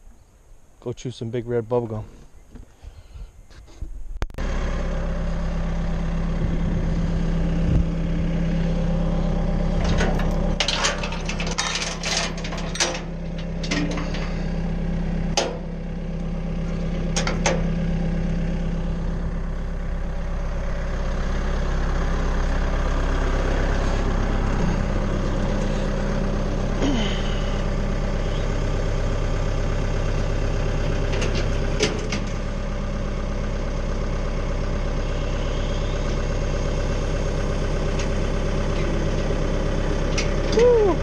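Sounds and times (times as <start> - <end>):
tractor engine idling: 4.4 - 41.0.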